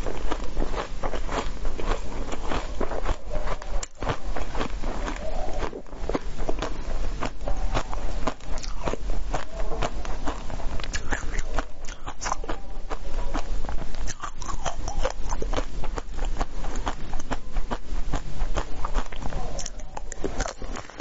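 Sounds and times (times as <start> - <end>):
crunchy biting and chewing: 0.0 - 21.0.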